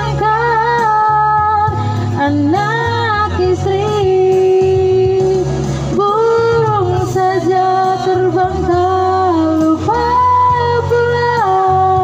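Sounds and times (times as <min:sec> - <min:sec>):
woman singing a slow song: 0:00.0 - 0:12.0.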